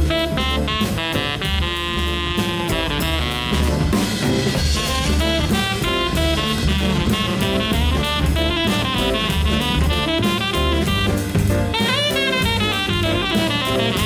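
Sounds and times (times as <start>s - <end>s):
double bass: 0.0s - 14.0s
drum kit: 0.0s - 14.0s
piano: 0.0s - 14.0s
saxophone playing quick notes: 0.0s - 14.0s.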